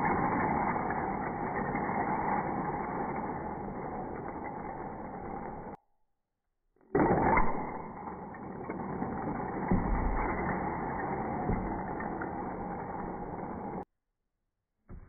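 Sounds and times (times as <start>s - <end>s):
domino tower crashing: 0.0s - 5.8s, 6.9s - 13.9s
dominoes clattering on wooden table: 0.0s - 5.8s, 7.0s - 13.8s.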